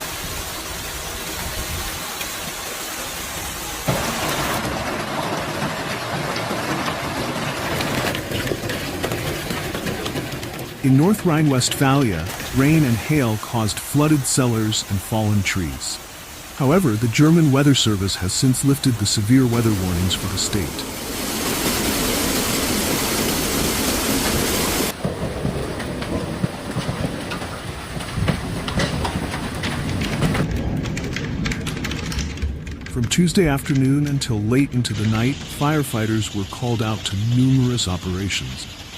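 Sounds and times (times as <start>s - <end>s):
heavy rain and hail: 0.0s - 38.9s.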